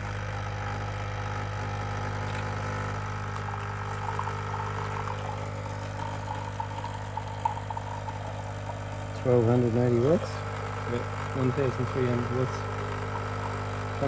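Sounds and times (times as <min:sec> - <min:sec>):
coffee machine pump humming: 0:00.0 - 0:14.0
milk sputtering into cup: 0:02.2 - 0:14.0.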